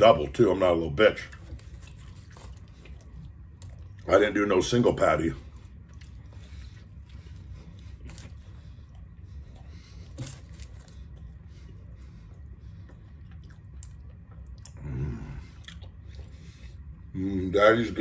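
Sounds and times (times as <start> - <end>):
low steady hum: 0.0 - 18.0
chewing and mouth clicks: 1.2 - 4.3, 5.4 - 17.1.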